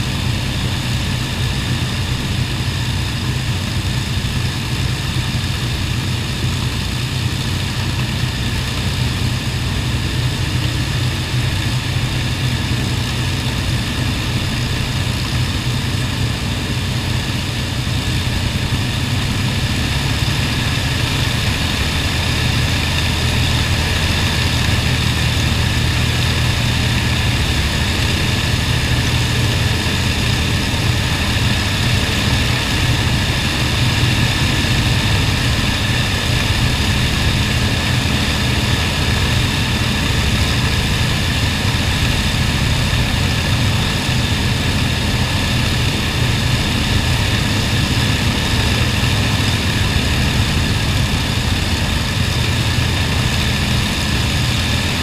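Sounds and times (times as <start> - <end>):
propeller engines droning: 0.0 - 55.0.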